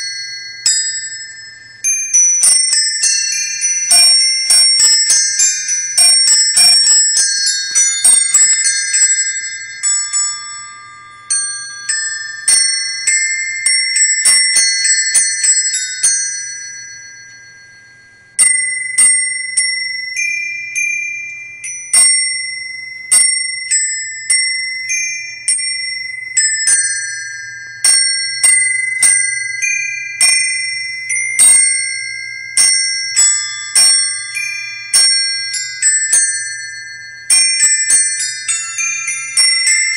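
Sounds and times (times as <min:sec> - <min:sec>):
small metal bells playing a tune: 0:00.0 - 0:39.9.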